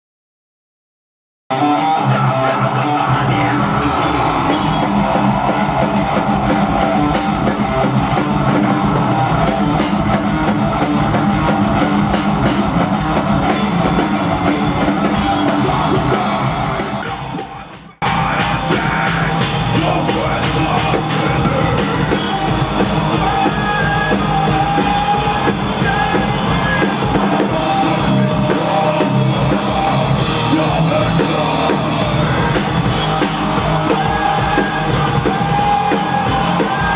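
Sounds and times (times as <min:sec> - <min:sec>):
rock band playing live: 0:01.5 - 0:36.9.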